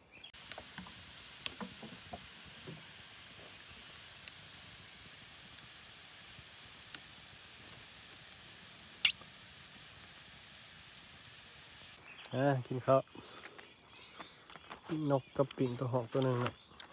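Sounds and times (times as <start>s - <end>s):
wood fire hissing and crackling: 0.0s - 16.9s.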